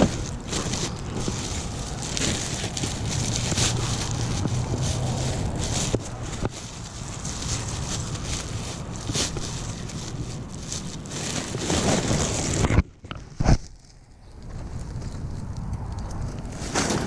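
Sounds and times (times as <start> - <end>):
wind buffeting microphone: 0.0 - 12.8, 14.2 - 17.0.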